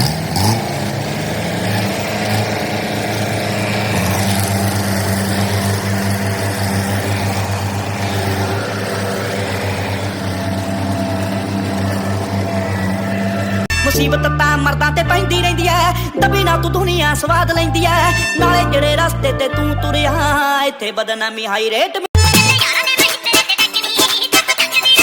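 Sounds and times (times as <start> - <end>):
tractor diesel engine running: 0.0 - 20.4.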